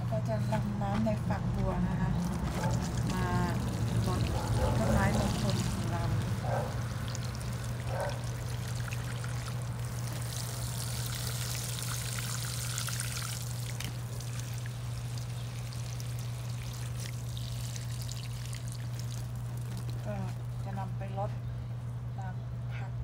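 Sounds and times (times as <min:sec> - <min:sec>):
constant low hum: 0:00.0 - 0:23.0
water streaming onto plants: 0:02.2 - 0:20.8.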